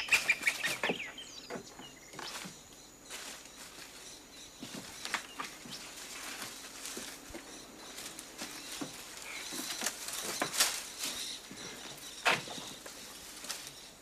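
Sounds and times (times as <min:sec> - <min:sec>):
dry thatch and debris crackling: 0:00.0 - 0:14.0.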